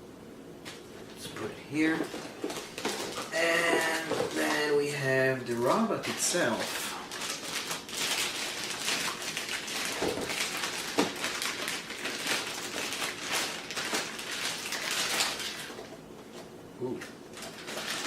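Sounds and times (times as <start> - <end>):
packaging rustling and crinkling: 1.8 - 16.4, 17.3 - 18.0.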